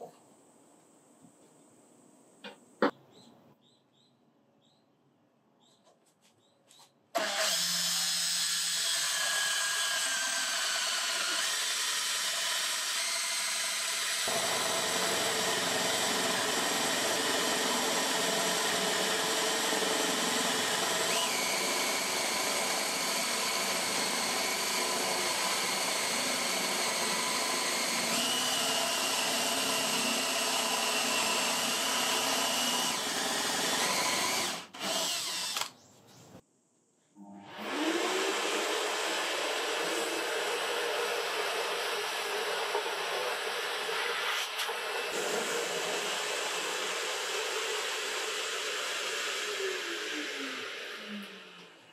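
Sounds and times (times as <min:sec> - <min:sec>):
power drill boring into wood: 0:07.2 - 0:35.7, 0:37.5 - 0:51.7.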